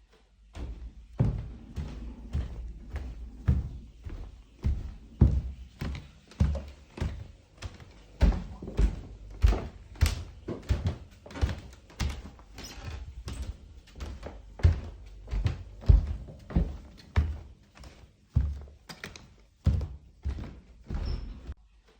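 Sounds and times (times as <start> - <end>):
footsteps walking: 0.0 - 21.6.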